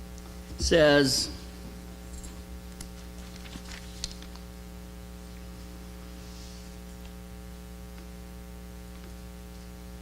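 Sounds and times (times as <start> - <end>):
electrical mains hum with hiss: 0.0 - 10.0.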